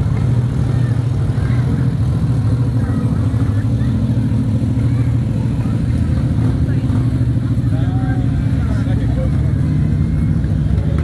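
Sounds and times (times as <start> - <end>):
faint voices: 0.0 - 11.0
vehicle engine droning: 0.0 - 11.0.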